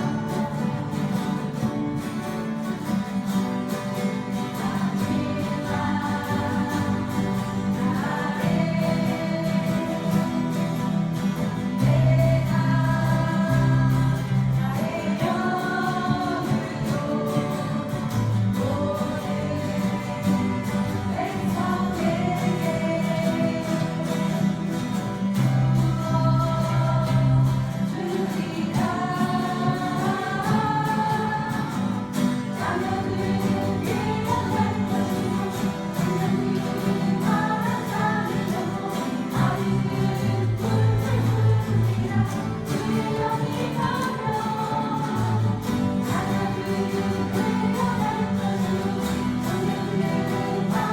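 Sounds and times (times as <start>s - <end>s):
group singing worship song: 0.0s - 50.9s
strummed acoustic guitars: 0.0s - 50.9s.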